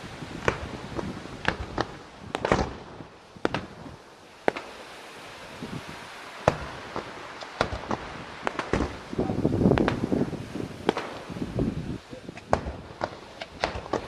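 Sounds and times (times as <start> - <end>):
firework shells bursting: 0.3 - 4.9, 6.4 - 11.4, 12.3 - 14.0.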